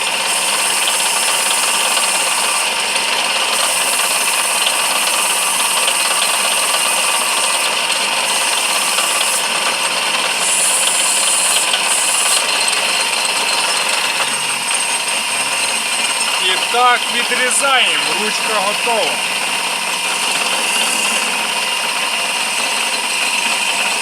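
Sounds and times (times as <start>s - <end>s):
hiss of cutting tool on wood: 0.0s - 16.2s, 19.2s - 24.0s
lathe running: 0.0s - 24.0s.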